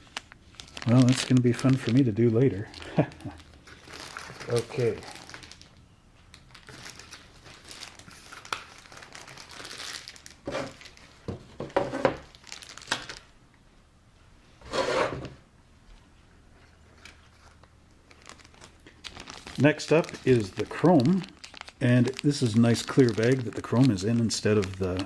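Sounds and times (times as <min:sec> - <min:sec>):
plastic bags crinkling: 0:00.0 - 0:11.3, 0:12.2 - 0:13.3, 0:16.8 - 0:25.0.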